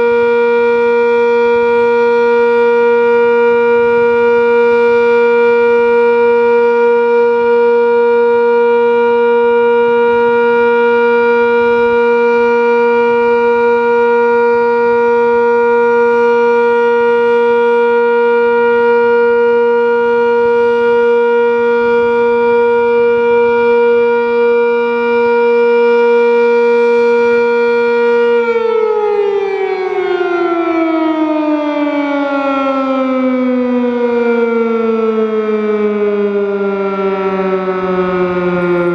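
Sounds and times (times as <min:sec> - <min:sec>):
warning siren chord: 0:00.0 - 0:38.9.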